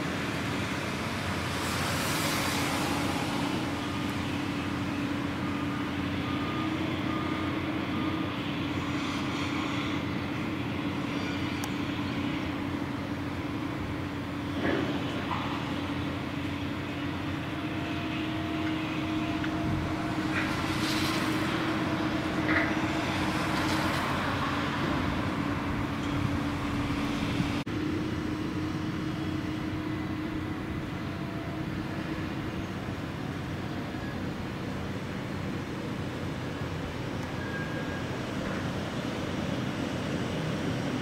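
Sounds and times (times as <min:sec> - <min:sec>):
heavy diesel machinery running: 0:00.0 - 0:41.0.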